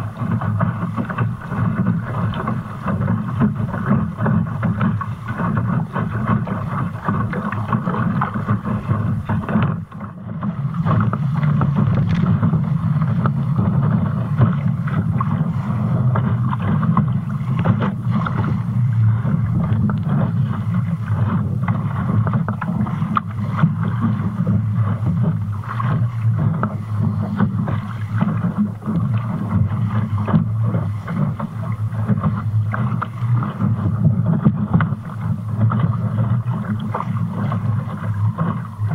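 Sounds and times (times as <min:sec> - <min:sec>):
water rushing along boat hull: 0:00.0 - 0:38.9
wind buffeting microphone: 0:00.0 - 0:38.9.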